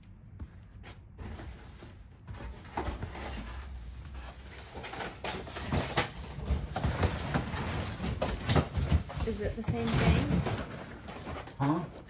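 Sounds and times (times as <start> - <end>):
boxes rustling and knocking: 0.4 - 12.0.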